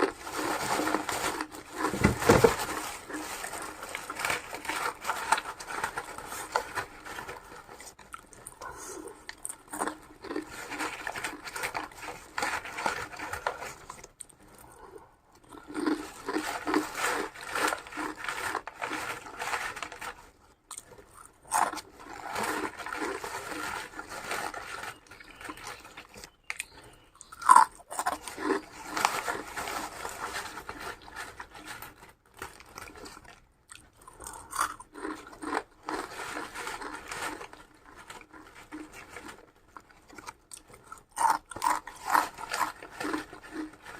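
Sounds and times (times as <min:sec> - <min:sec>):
person chewing and crunching: 0:00.0 - 0:43.9.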